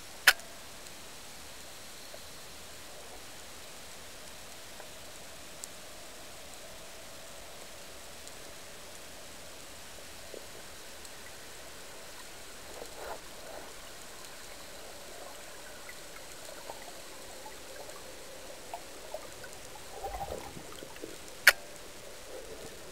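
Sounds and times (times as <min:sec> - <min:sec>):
faint clicks and crackles: 0:02.1 - 0:22.9.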